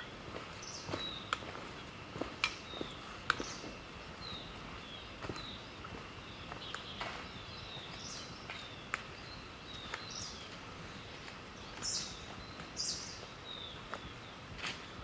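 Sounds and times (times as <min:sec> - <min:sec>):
birds chirping: 0:00.0 - 0:15.0
faint high-pitched insect drone: 0:00.0 - 0:15.0.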